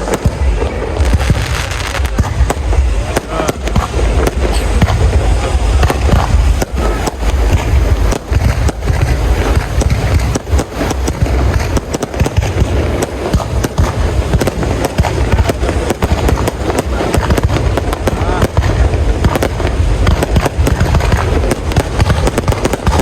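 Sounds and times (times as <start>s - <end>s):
firework cracks: 0.0s - 23.0s
low rumble of booms: 0.0s - 23.0s.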